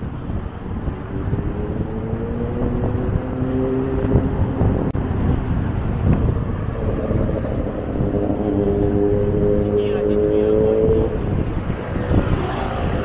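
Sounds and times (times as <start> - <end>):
road rumble: 0.0 - 13.0
vehicle engine accelerating: 0.2 - 13.0.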